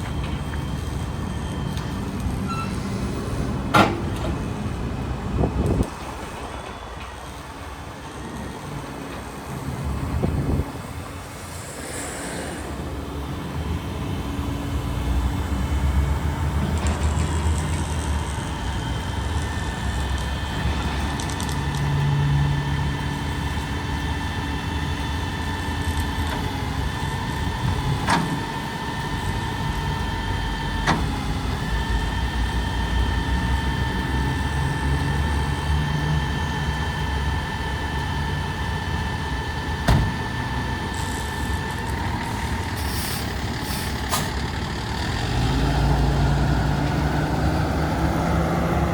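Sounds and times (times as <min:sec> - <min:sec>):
steady whine: 0:00.0 - 0:45.2
diesel engine running: 0:00.0 - 0:48.9.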